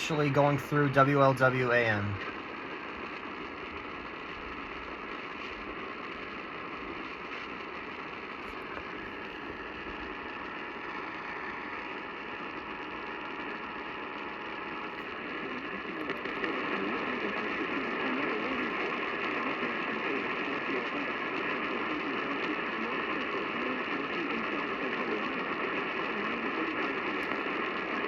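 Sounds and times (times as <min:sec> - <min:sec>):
faint steady tones: 0:00.0 - 0:28.0
radio static hiss and crackle: 0:00.0 - 0:28.0.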